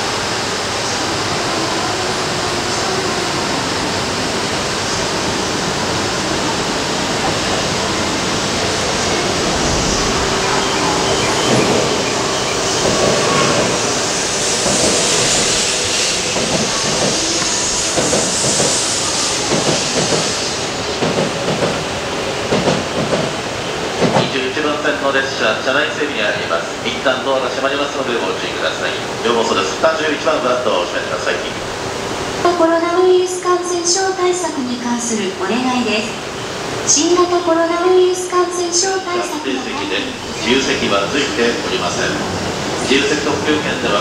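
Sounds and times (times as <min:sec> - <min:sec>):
train rumble and hiss: 0:00.0 - 0:44.0.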